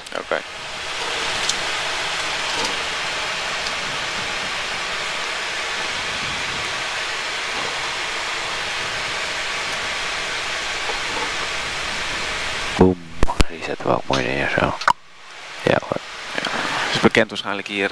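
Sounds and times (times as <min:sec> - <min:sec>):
airplane cockpit rushing noise: 0:00.0 - 0:15.0.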